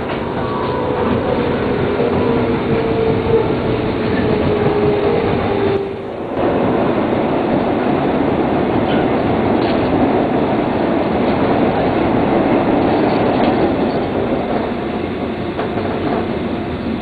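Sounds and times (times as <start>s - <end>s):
electric train whine: 0.0s - 17.0s
train wheels rumbling on rail: 0.0s - 17.0s.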